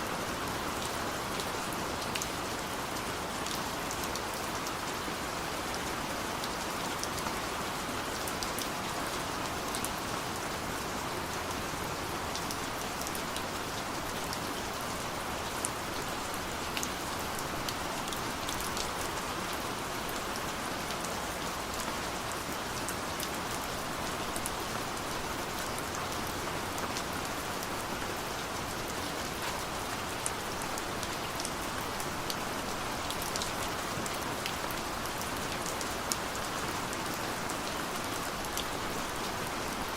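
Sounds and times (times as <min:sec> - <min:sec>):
raindrops ticking on surfaces: 0:00.0 - 0:39.9
steady rain hiss: 0:00.0 - 0:39.9.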